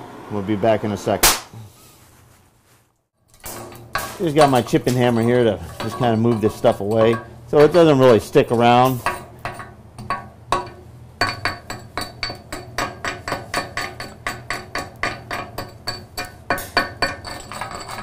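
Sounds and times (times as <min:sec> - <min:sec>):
chipping hammer tapping steel: 0:03.3 - 0:18.0.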